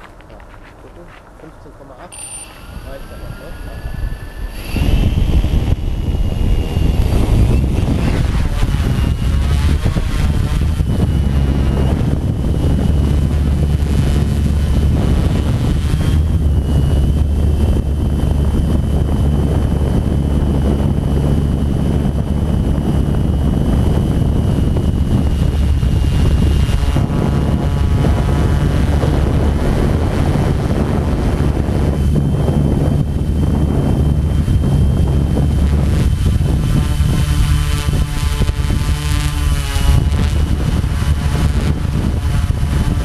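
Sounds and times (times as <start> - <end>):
drone motors humming: 0.0 - 43.0
wind rushing over microphone: 0.0 - 43.0.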